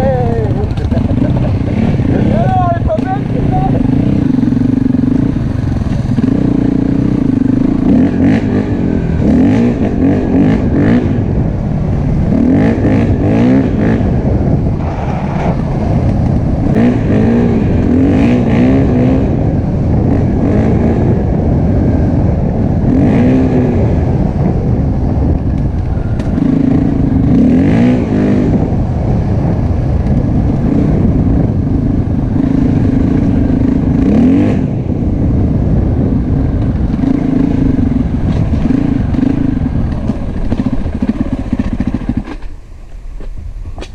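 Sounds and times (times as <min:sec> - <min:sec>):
motorcycle engine revving: 0:00.0 - 0:42.8.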